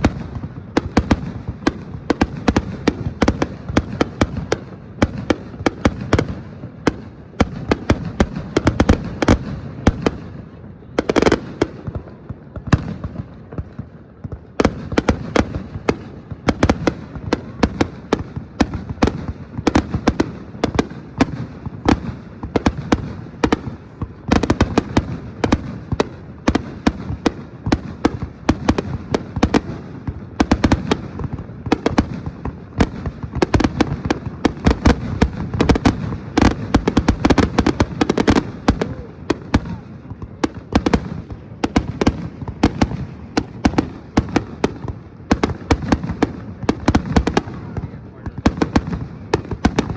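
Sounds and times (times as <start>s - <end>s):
fireworks booming and crackling: 0.0s - 49.9s.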